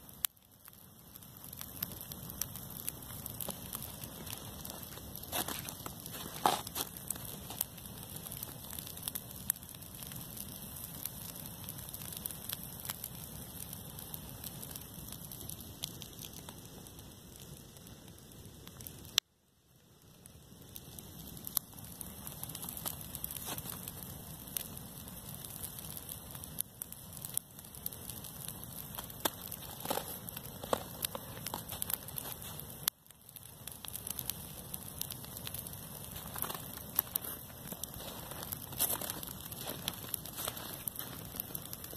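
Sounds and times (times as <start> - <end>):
dry grass burning with crackles: 0.0 - 41.9.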